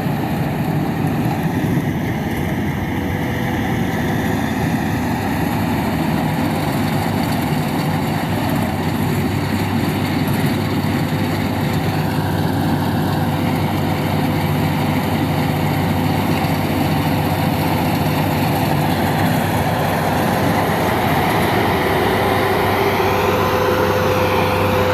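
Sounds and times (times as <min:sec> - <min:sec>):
harvester engine drone: 0:00.0 - 0:24.9
machinery whine: 0:00.0 - 0:24.9.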